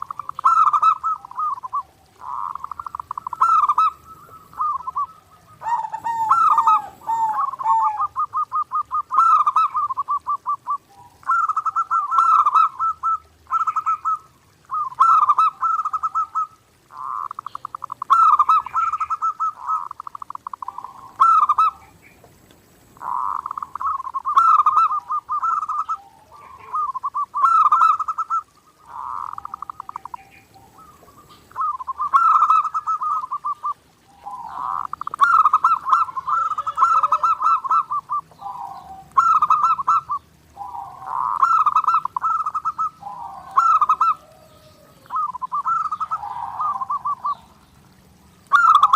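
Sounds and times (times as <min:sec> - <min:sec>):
dove cooing: 0:00.0 - 0:21.9, 0:22.8 - 0:48.9.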